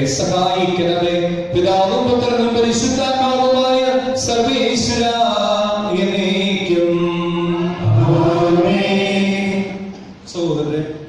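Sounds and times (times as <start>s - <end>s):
man chanting into a microphone: 0.0s - 11.0s.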